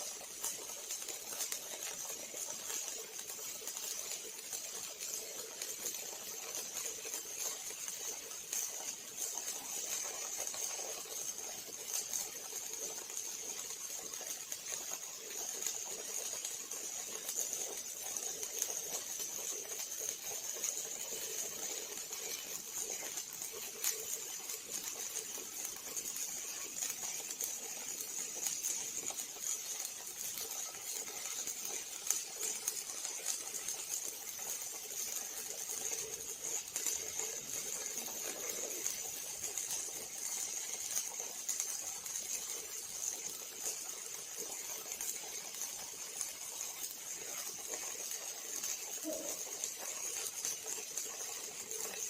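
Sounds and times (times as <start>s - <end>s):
arc welding torch crackling: 0.0s - 52.0s.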